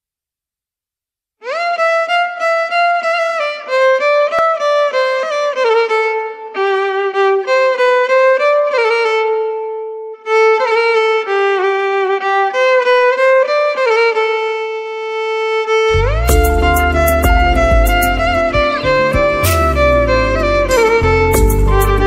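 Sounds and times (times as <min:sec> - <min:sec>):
slow bowed string melody: 0:01.4 - 0:22.0.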